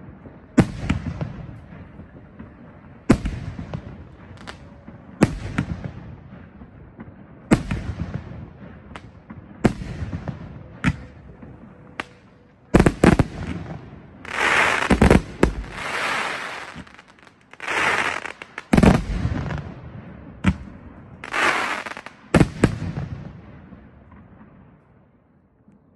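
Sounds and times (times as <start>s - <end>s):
firework crackling: 0.0s - 19.8s, 20.4s - 23.2s.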